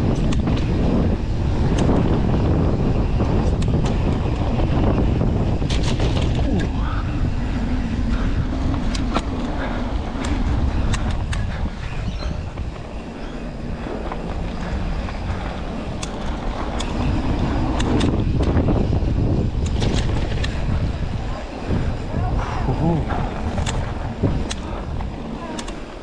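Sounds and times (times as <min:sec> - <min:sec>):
bike clicks and rattles: 0:00.0 - 0:26.0
bike tyre rumble: 0:00.0 - 0:26.0
wind buffeting microphone: 0:00.0 - 0:26.0.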